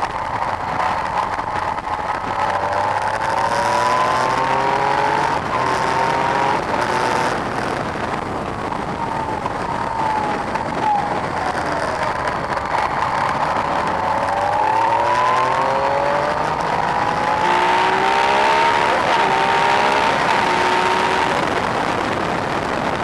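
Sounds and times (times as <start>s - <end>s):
motorcycle engine revving: 0.0s - 23.0s
wind noise on microphone: 0.0s - 23.0s.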